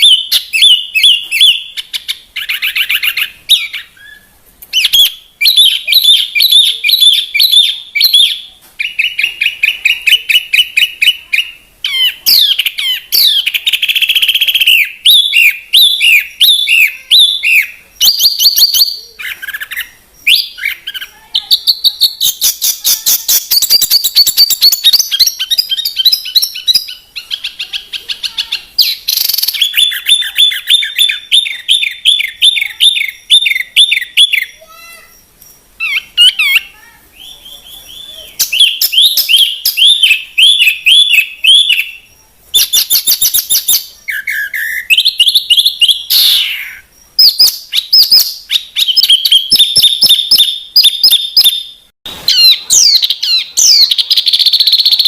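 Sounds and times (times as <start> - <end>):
bird singing chirps and trills: 0.0 - 55.0.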